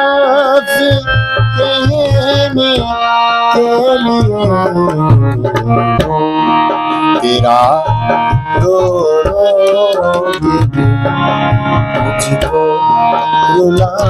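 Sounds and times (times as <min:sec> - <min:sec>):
harmonium chords: 0:00.0 - 0:14.0
man singing: 0:00.0 - 0:14.0
drum strokes: 0:00.8 - 0:14.0.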